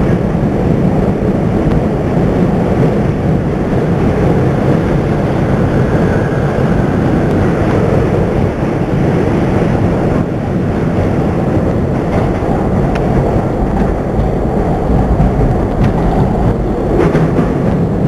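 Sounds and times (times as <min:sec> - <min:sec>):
subway train rumbling on track: 0:00.0 - 0:18.0.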